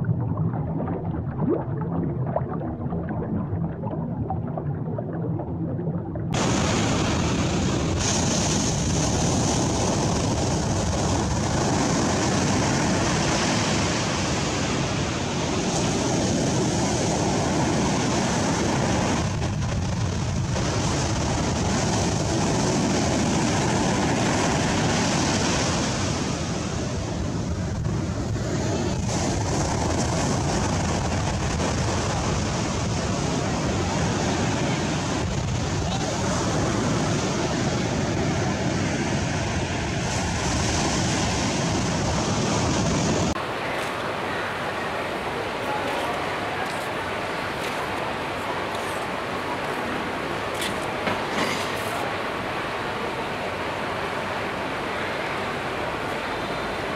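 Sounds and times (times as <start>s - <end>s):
wind: 0.0s - 56.9s
surf breaking on beach: 6.3s - 56.9s.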